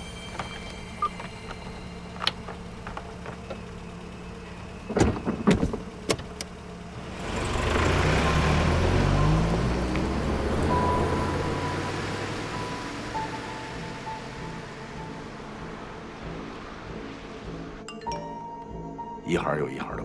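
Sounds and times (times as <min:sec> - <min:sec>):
car engine running: 0:00.0 - 0:17.9.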